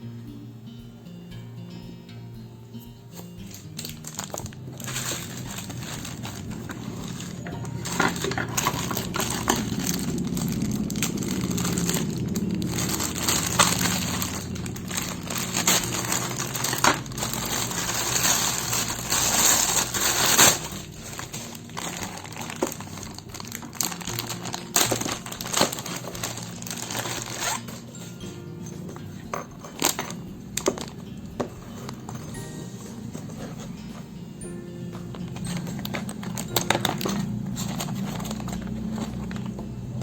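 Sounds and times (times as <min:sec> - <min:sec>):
plastic packaging crinkling: 0:03.4 - 0:28.2, 0:28.8 - 0:33.8, 0:35.0 - 0:40.0.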